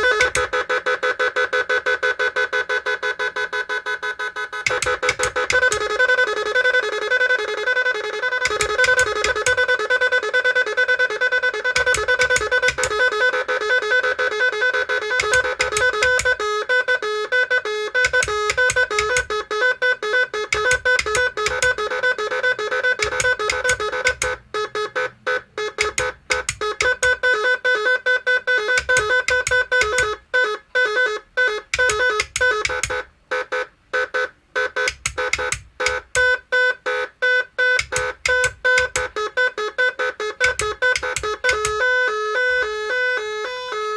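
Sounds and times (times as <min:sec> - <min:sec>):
buzzy electronic car horn melody: 0:00.0 - 0:43.9.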